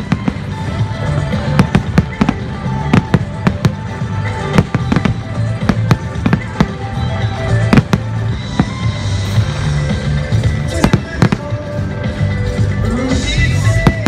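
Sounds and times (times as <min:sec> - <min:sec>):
fireworks bursting: 0:00.0 - 0:11.8
music: 0:00.0 - 0:14.0.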